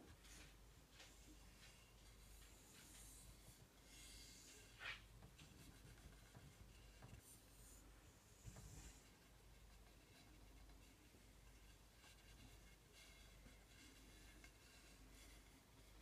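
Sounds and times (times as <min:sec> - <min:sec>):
rubbing and scratching handling noise: 0:00.0 - 0:16.0
scrape: 0:00.0 - 0:16.0.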